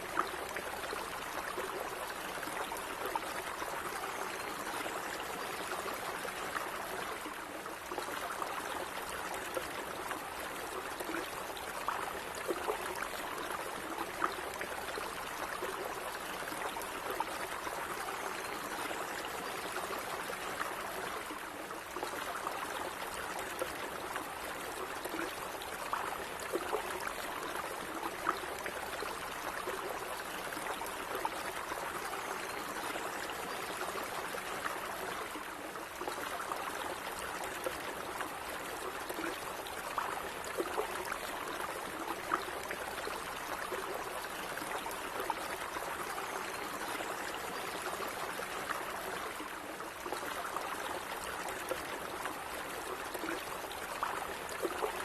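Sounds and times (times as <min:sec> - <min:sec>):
stream water babbling: 0:00.0 - 0:55.0.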